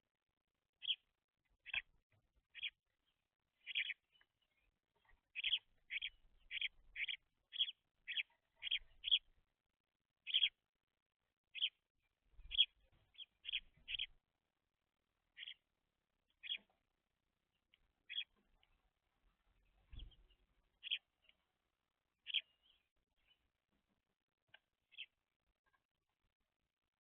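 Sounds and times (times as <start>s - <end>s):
sparrows chirping: 0.7s - 14.3s, 15.0s - 26.2s.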